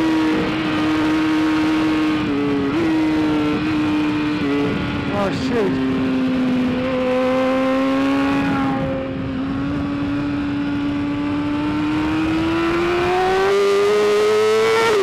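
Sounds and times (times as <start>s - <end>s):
motorcycle engine revving under load: 0.0s - 15.0s.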